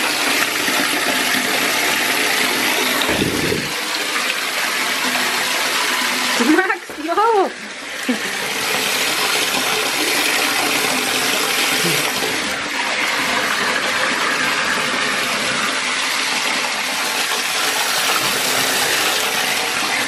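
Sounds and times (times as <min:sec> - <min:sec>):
tap water pouring into bathtub: 0:00.0 - 0:20.0.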